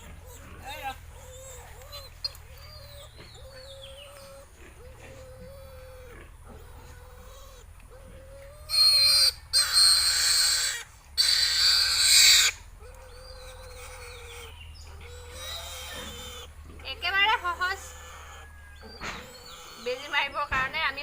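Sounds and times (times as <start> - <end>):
piglet squealing: 0.0 - 20.7.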